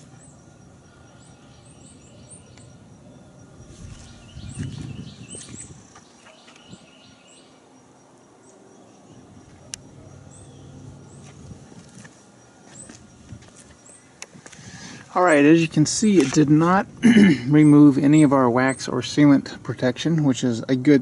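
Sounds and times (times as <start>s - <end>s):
birds chirping: 0.0s - 21.0s
faint high whine: 0.0s - 21.0s.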